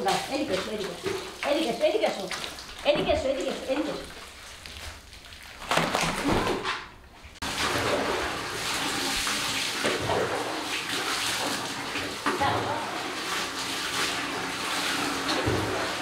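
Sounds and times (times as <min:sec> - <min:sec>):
water running: 0:00.0 - 0:16.0.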